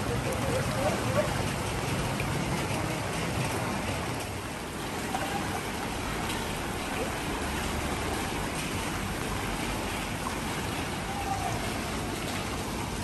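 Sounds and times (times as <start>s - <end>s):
car driving through water: 0.0s - 13.0s
floodwater sloshing: 0.0s - 13.0s
people wading in water: 0.0s - 13.0s.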